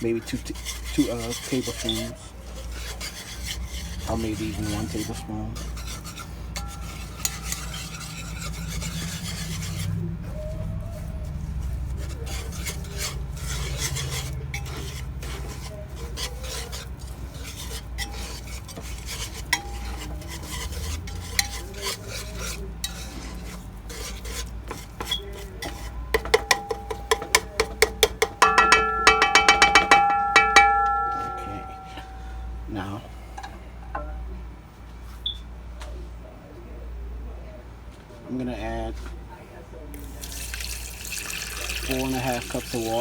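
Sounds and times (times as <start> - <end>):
whisk scraping in a pot: 0.0 - 34.3, 40.0 - 43.0
whisk clattering against ringing pot: 0.0 - 34.4, 40.0 - 43.0.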